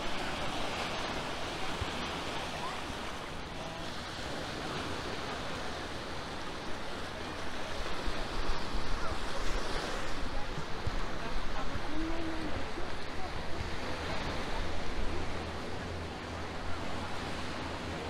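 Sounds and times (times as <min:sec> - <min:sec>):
waves washing up shore: 0:00.0 - 0:18.0.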